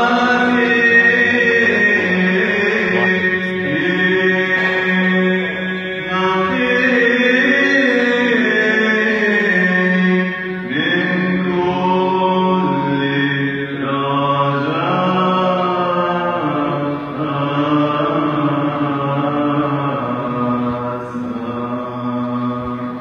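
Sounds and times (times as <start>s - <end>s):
choir chanting: 0.0s - 23.0s
low held drone: 0.0s - 23.0s.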